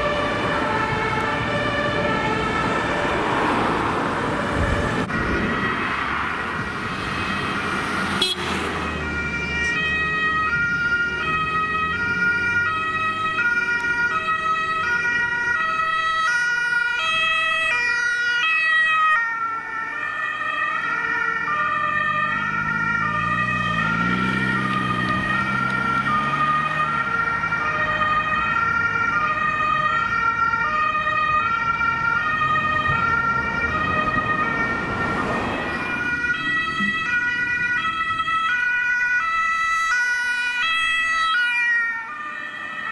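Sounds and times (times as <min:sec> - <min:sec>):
vehicle engine passing: 0:00.0 - 0:16.2, 0:19.5 - 0:39.1
two-tone emergency sirens: 0:00.0 - 0:42.9.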